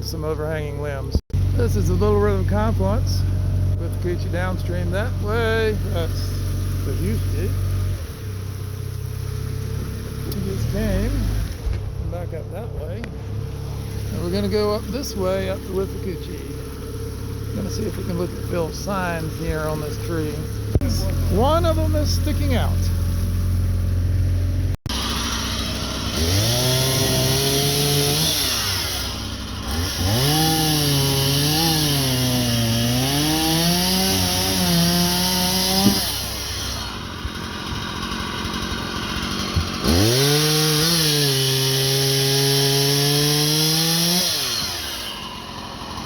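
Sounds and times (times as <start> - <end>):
chainsaw revving and cutting wood: 0.0 - 46.0.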